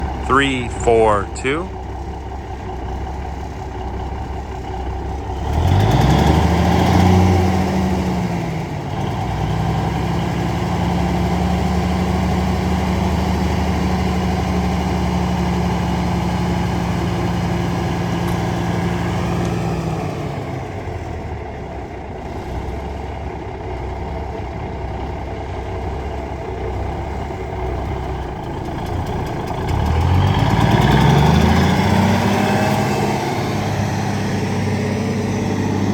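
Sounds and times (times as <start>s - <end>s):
diesel truck engine revving: 0.0s - 35.9s.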